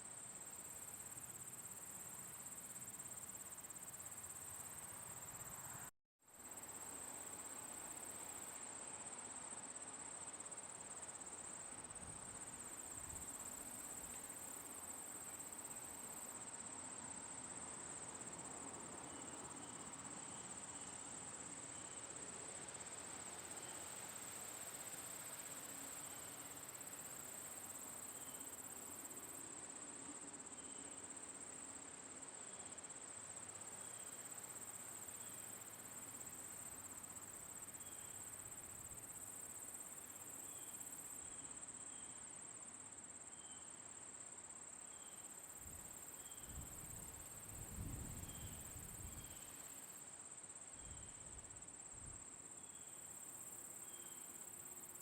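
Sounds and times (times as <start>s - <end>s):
background hiss: 0.0s - 55.0s
crickets chirping: 0.0s - 55.0s.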